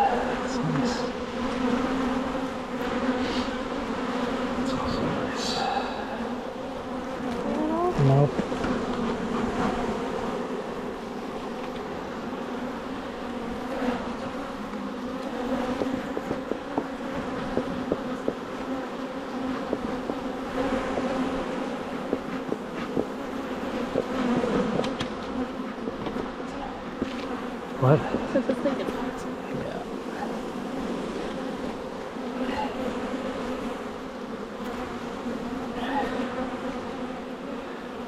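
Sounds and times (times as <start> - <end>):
honeybees buzzing around hive: 0.0 - 38.0.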